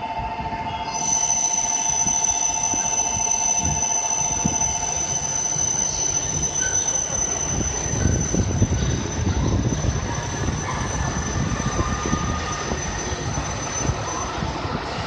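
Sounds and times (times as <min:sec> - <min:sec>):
thin steady high tone: 0:00.0 - 0:15.0
train wheels rumbling on rails: 0:00.0 - 0:15.0.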